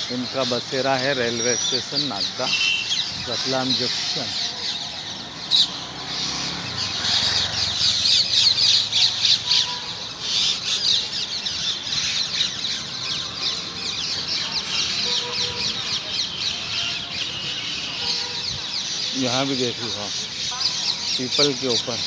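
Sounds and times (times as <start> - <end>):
parrots calling: 1.3 - 19.2.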